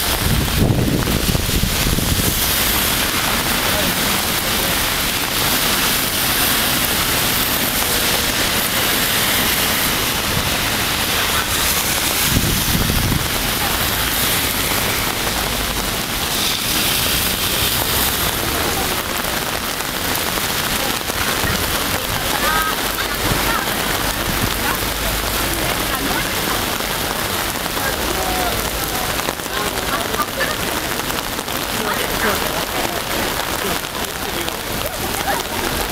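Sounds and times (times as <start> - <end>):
rain on wet pavement: 0.0 - 35.9.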